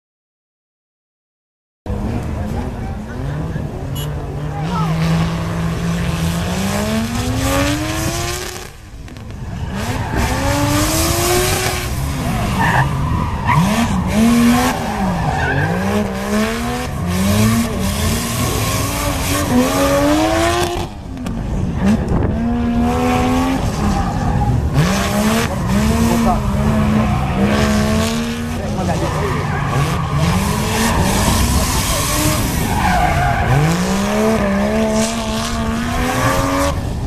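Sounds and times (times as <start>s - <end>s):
car engine revving: 1.9s - 37.0s.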